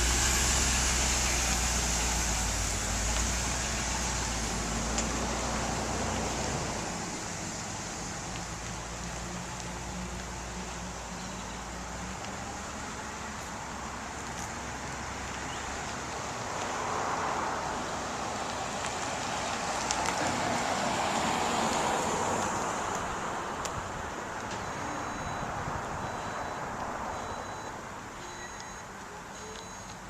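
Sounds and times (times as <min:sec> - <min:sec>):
truck engine hum: 0:00.0 - 0:30.0.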